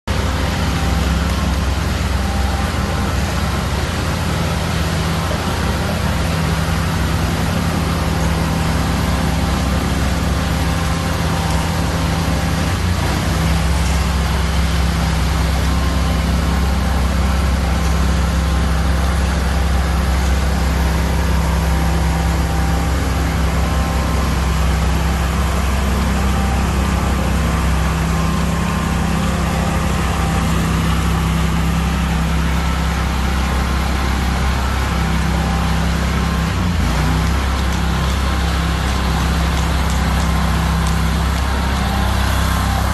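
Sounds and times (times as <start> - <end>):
power trowel engine humming: 0.0 - 42.9.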